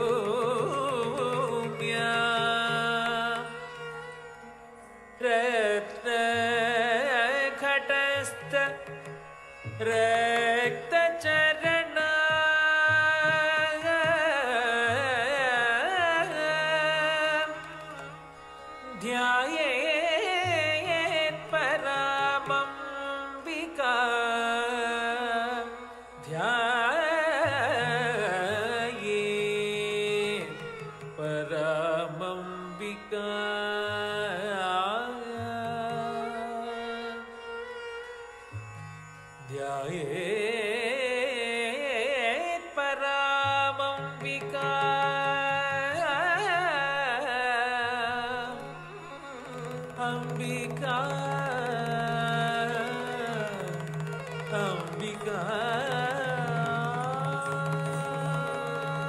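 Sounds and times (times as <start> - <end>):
person singing ornamented melody: 0.0 - 4.4, 5.2 - 37.9, 39.4 - 59.0.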